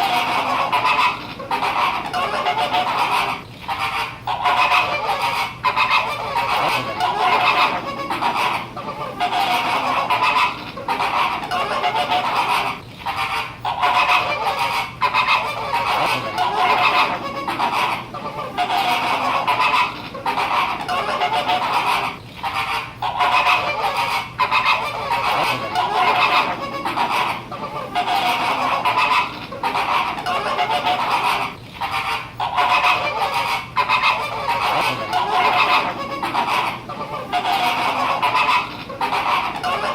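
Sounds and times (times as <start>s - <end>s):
flamingos honking: 0.0s - 39.9s.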